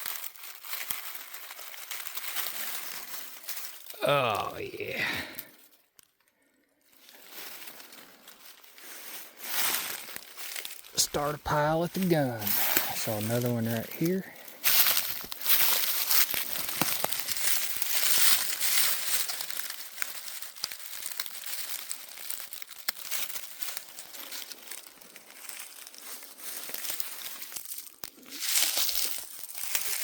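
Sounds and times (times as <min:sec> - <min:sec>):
dry leaves rustling and crunching: 0:00.0 - 0:04.4, 0:06.9 - 0:10.9, 0:12.0 - 0:30.0.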